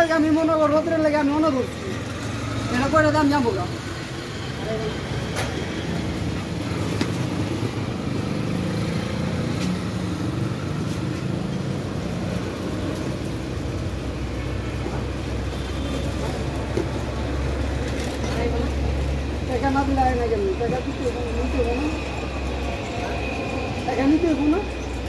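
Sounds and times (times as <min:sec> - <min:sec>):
motor vehicle rumble: 0:00.0 - 0:25.0.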